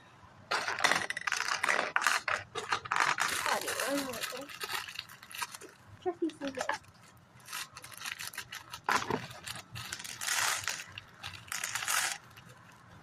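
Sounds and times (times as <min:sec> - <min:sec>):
plastic pieces clicking and rattling: 0:00.5 - 0:12.9
scissors cutting plastic: 0:00.5 - 0:12.9.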